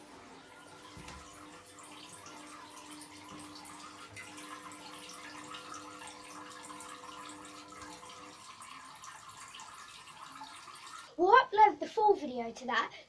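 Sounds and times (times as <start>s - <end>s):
liquid trickling into water: 0.0s - 11.2s.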